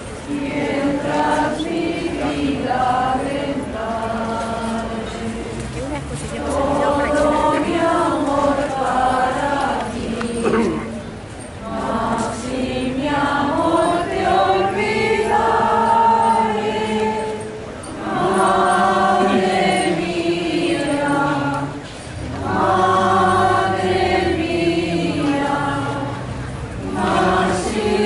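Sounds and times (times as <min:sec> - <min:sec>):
congregation singing a hymn: 0:00.0 - 0:05.8, 0:06.4 - 0:28.0.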